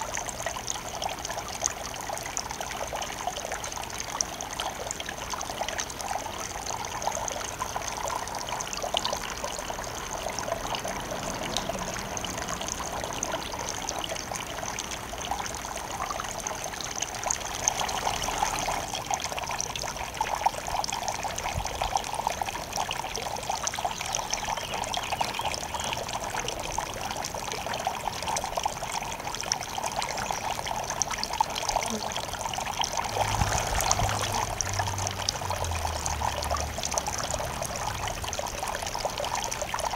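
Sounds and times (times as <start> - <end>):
fountain water trickling over rocks: 0.0 - 39.9.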